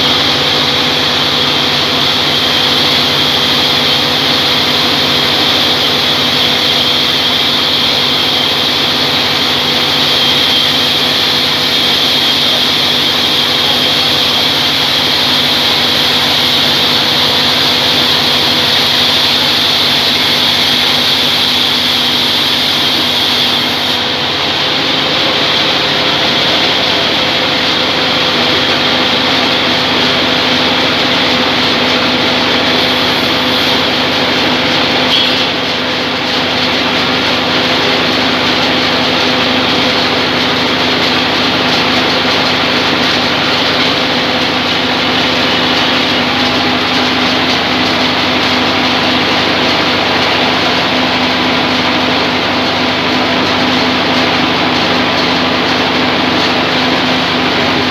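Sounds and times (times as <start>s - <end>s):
band saw droning: 0.0s - 57.9s.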